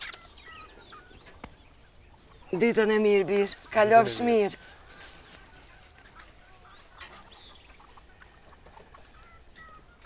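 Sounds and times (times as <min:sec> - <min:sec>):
hens clucking: 0:00.0 - 0:10.0.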